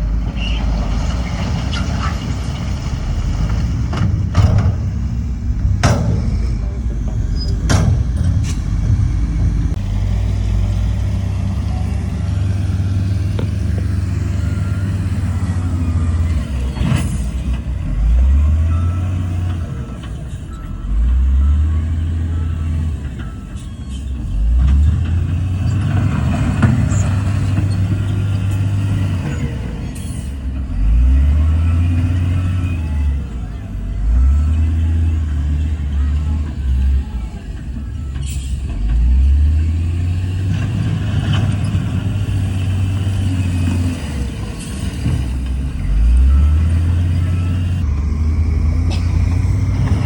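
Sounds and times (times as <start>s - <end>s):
diesel engine revving under load: 0.0s - 50.0s.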